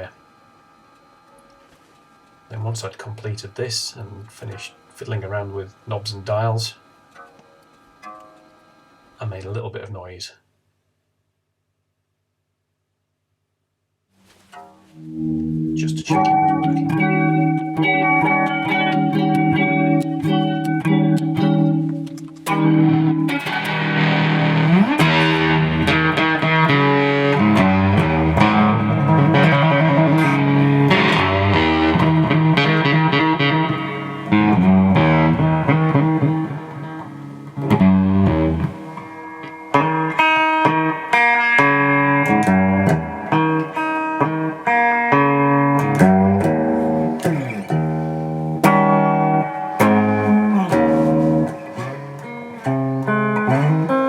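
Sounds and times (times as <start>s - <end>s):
electric guitar playing: 4.4s - 9.2s, 14.4s - 54.0s.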